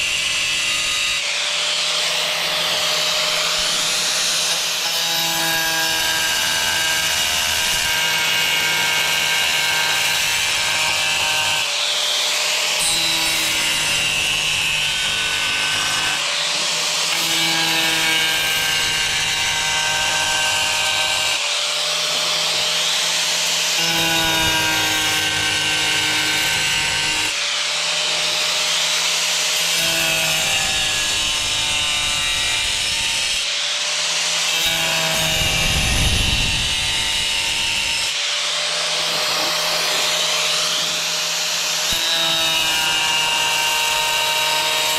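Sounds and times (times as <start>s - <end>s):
angle grinder cutting tile: 0.0s - 44.9s.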